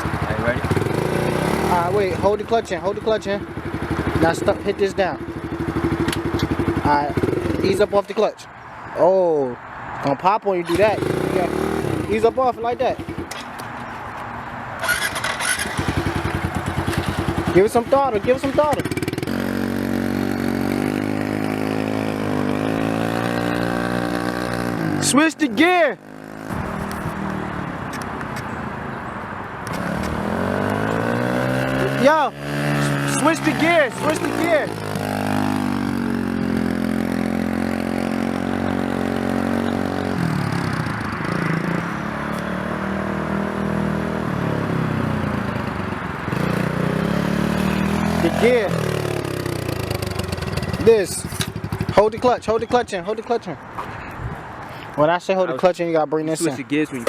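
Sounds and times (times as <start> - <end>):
dirt bike engine revving: 0.0 - 8.0, 10.7 - 13.4, 14.8 - 27.4, 29.7 - 53.0.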